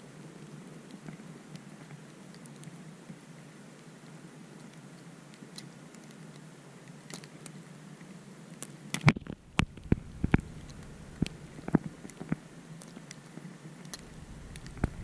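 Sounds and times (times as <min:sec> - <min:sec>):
steady hiss: 0:00.0 - 0:15.0
light pattering ticks: 0:00.3 - 0:03.2, 0:03.8 - 0:15.0.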